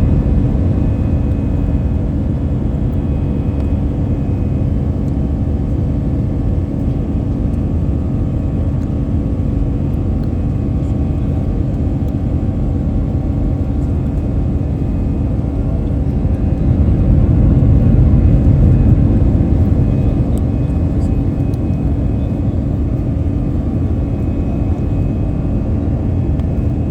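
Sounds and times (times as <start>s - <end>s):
airliner engine rumble: 0.0s - 26.9s
faint steady hum: 0.0s - 26.9s.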